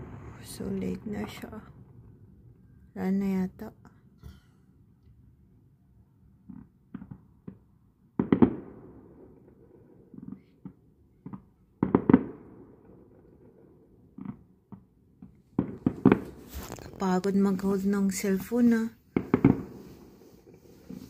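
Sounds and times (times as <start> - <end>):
distant fireworks bursting: 0.0 - 3.7, 6.4 - 17.0, 18.4 - 21.0.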